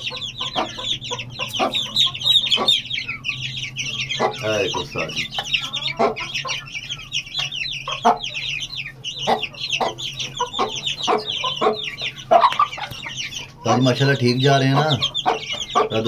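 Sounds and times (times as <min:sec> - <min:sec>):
chicks peeping: 0:00.0 - 0:16.0
hen clucking low: 0:00.0 - 0:16.0.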